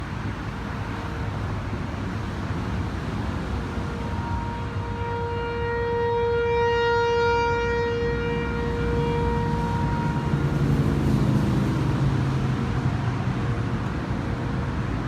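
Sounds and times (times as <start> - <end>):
tornado warning siren steady tone: 0.1 - 13.5.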